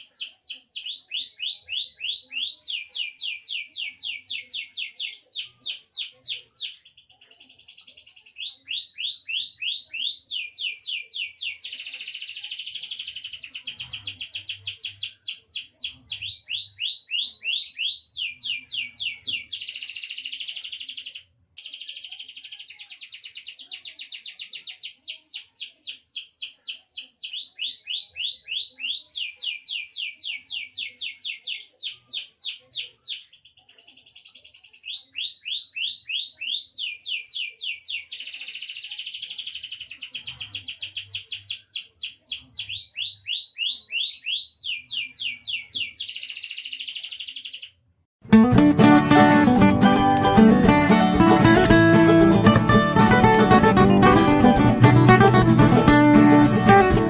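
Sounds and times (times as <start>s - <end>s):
canary singing trills: 0.0s - 47.8s.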